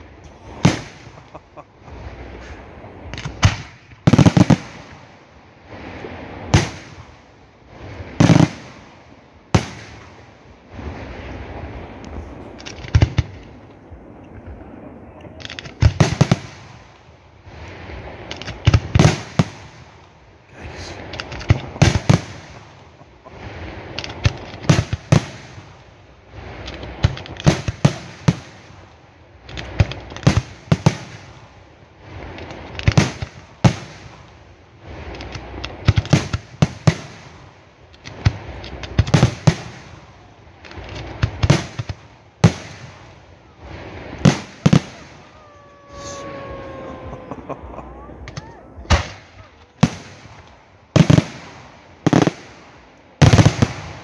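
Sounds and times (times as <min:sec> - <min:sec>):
fireworks bursting: 0:00.0 - 0:54.0
steady background noise: 0:00.0 - 0:54.0.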